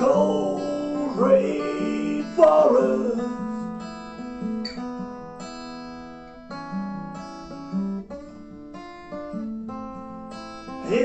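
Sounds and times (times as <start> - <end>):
acoustic guitar playing chords: 0.0 - 11.0.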